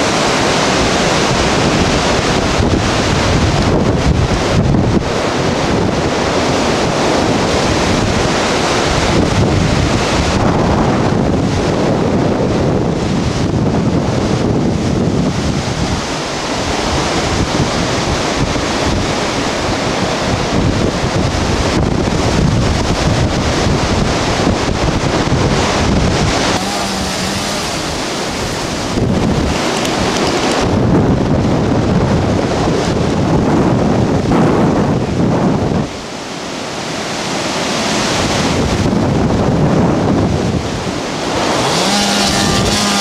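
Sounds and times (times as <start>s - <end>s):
strong wind buffeting microphone: 0.0s - 43.0s.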